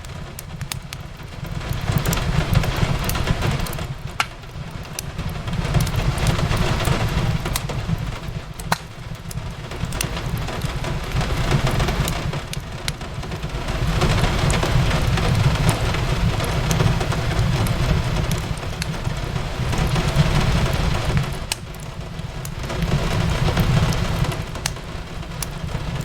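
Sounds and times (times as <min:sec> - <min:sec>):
rain hiss: 0:00.0 - 0:26.0
wood fire crackling: 0:00.0 - 0:26.0.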